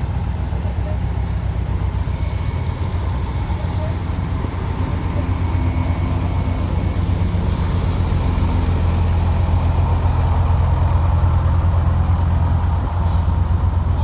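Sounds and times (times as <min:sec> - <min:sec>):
heavy engine deep hum: 0:00.0 - 0:14.0.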